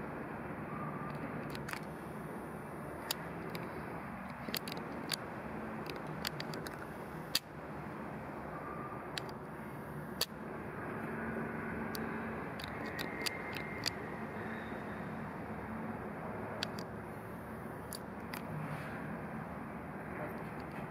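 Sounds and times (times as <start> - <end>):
outdoor background hum: 0.0 - 20.9.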